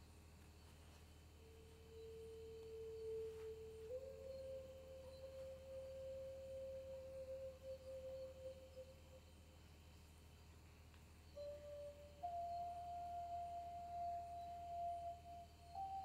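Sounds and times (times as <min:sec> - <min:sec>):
faint sustained pure tone: 0:00.0 - 0:16.0.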